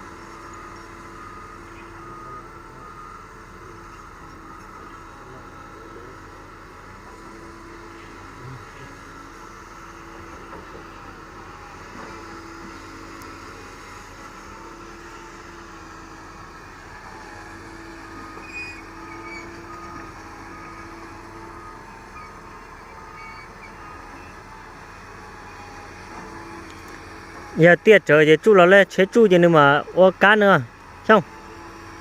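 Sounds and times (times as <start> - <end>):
excavator running: 0.0 - 32.0.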